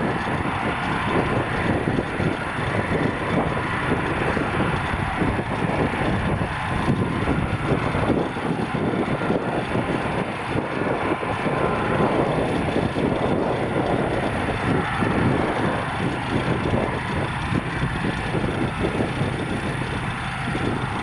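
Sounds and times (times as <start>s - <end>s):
jet engines at low power: 0.0s - 21.0s.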